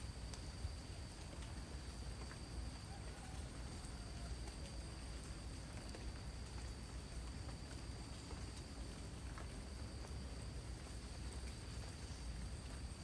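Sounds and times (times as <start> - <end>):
faint water drips: 0.0 - 13.0
rain falling in a forest: 0.0 - 13.0.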